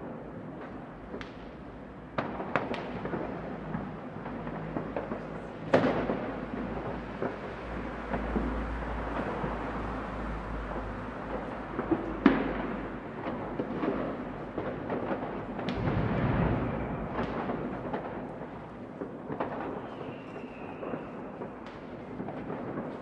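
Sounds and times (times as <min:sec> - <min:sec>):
distant fireworks rumbling: 0:00.0 - 0:23.0
firecrackers cracking: 0:00.0 - 0:23.0.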